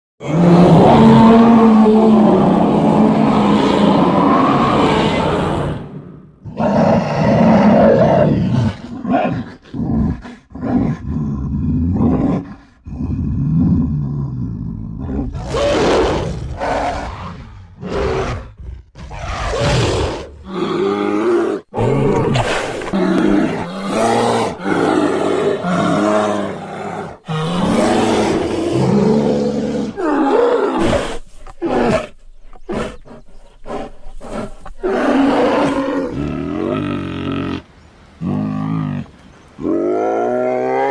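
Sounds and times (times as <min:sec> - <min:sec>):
animal roars and growls: 0:00.2 - 0:40.9.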